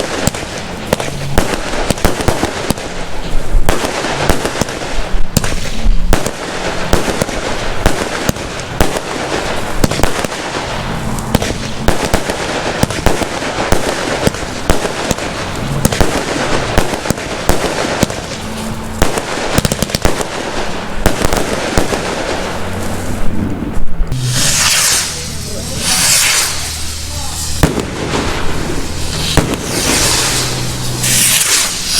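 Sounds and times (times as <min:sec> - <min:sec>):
fireworks cracking and banging: 0:00.0 - 0:31.9.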